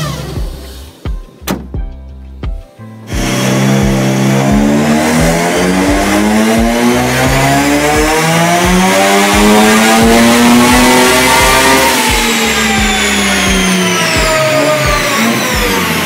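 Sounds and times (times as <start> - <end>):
turbocharged engine revving: 0.0 - 1.0, 3.1 - 16.0.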